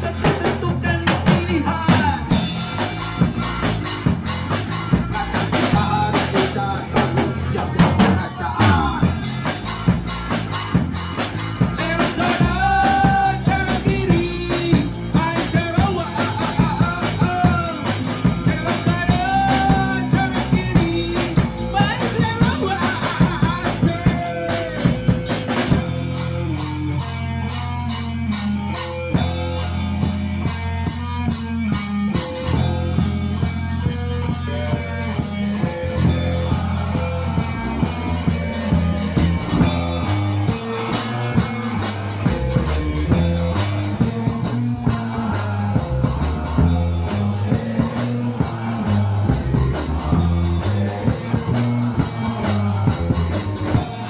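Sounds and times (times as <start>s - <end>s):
person singing: 0.0s - 3.2s, 4.9s - 9.6s, 11.6s - 27.2s, 33.4s - 54.0s
drum kit: 0.0s - 54.0s
guitar: 0.0s - 54.0s.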